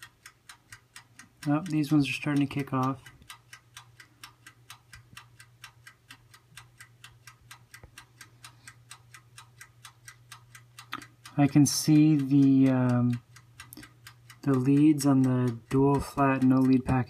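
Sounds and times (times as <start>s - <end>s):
mechanical timer ticking fast: 0.0s - 17.0s.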